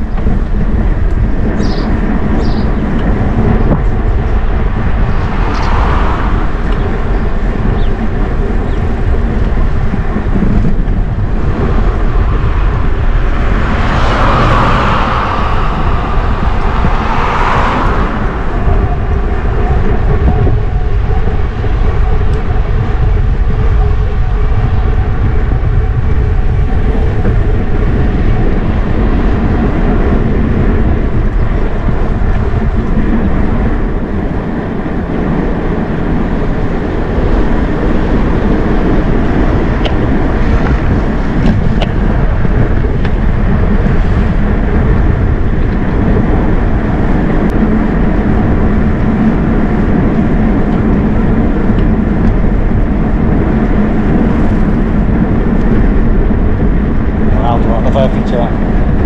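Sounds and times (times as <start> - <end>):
road noise: 0.0 - 59.0
vehicles passing: 0.0 - 59.0
wind rumble on microphone: 0.0 - 59.0.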